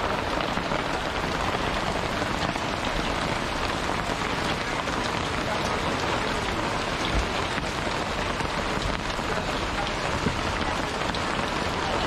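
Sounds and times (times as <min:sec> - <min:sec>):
rain on a tarpaulin: 0:00.0 - 0:12.0.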